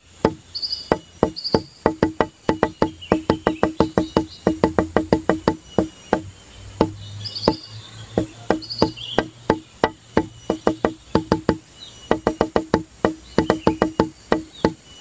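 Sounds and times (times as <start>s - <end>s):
wood block percussion beat: 0.1s - 15.0s.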